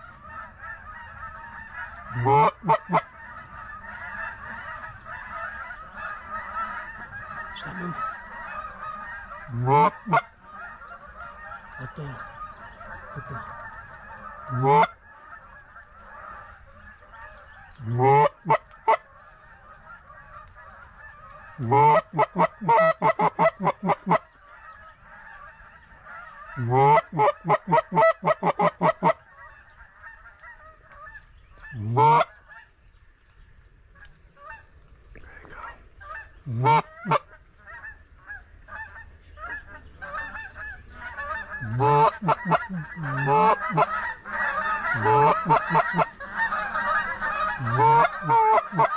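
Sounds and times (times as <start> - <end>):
loud goose calls: 0.0 - 32.8, 35.6 - 48.9
flock of geese calling: 0.0 - 48.9.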